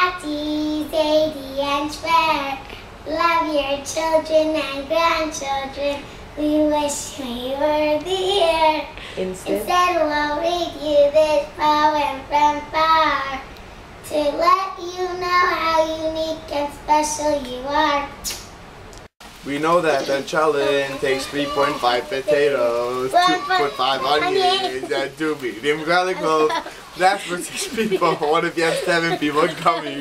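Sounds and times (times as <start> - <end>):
girl singing: 0.0 - 13.4, 14.1 - 18.2, 20.0 - 25.1, 25.8 - 30.0.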